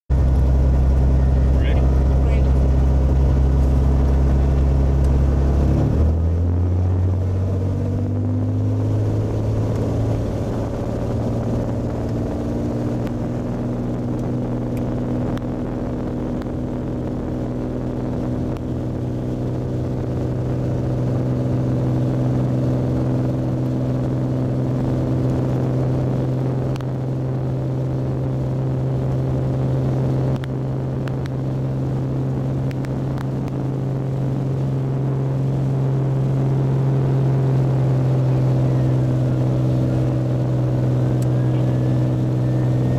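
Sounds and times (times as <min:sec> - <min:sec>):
propeller plane engine drone: 0:00.1 - 0:42.9.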